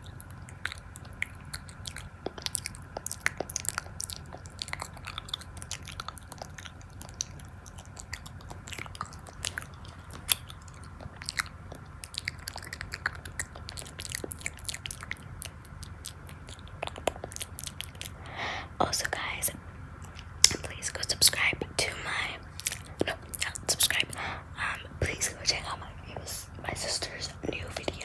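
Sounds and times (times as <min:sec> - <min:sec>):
chewing crunchy food: 0:00.0 - 0:19.3, 0:20.0 - 0:28.0.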